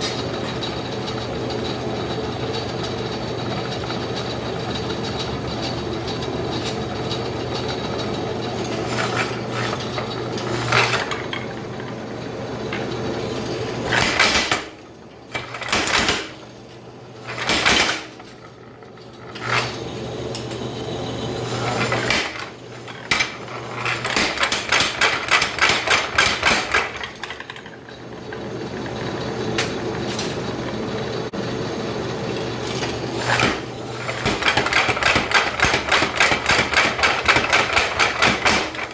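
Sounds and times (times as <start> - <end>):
machine humming: 0.0 - 38.9.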